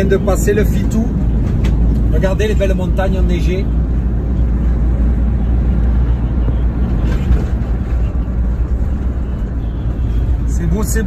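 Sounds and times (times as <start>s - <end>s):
vehicle cab road rumble: 0.0s - 11.0s.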